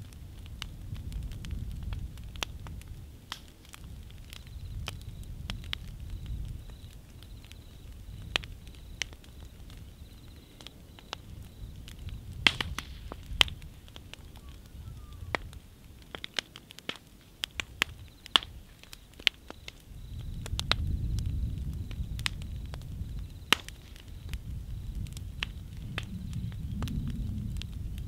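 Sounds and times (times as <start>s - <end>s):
burning wood crackling: 0.0s - 28.0s.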